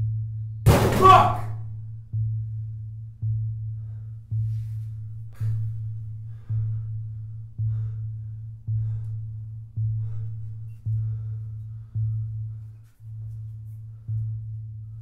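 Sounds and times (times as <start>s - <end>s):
low synthesized tone pulsing: 0.0s - 0.6s, 1.5s - 15.0s.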